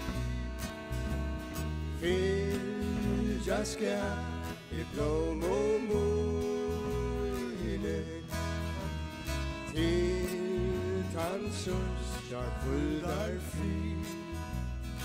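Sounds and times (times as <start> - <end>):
country-folk acoustic band: 0.0 - 15.0
men singing: 1.9 - 15.0.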